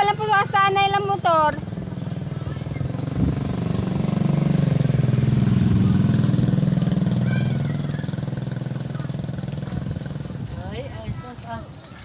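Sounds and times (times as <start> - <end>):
small motorcycle passing: 0.0 - 12.0.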